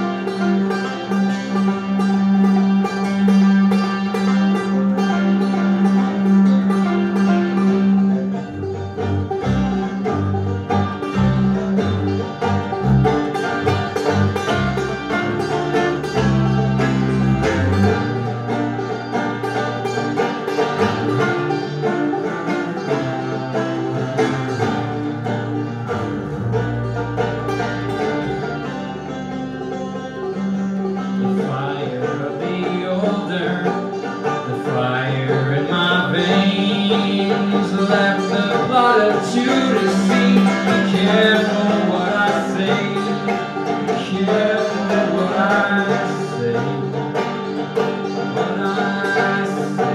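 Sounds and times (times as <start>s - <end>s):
banjo picking: 0.0s - 49.9s
bowed double bass: 0.0s - 49.9s.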